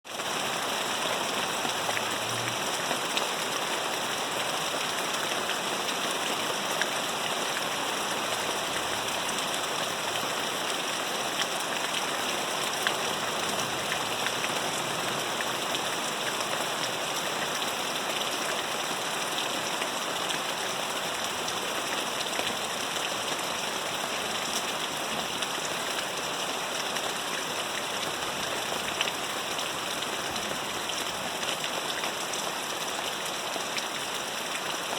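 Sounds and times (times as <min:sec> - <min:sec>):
rain falling: 0:00.1 - 0:34.9.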